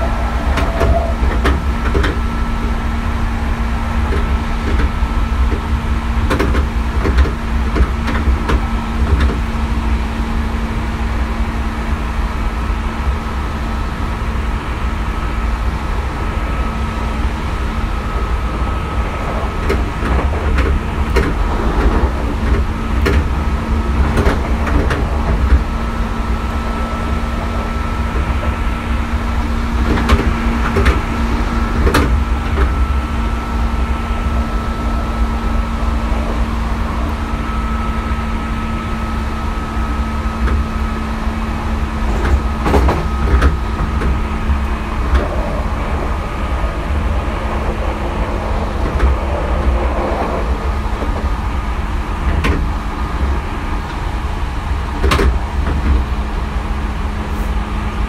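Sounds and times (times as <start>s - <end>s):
wheels clicking over rail joints: 0.0s - 10.0s, 17.3s - 38.4s, 39.5s - 58.0s
constant hum: 0.0s - 58.0s
train rumble: 0.0s - 58.0s.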